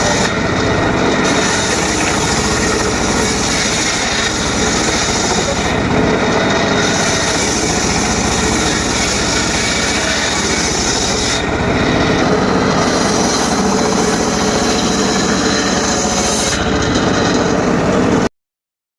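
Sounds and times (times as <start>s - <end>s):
circular saw cutting wood: 0.0s - 18.3s.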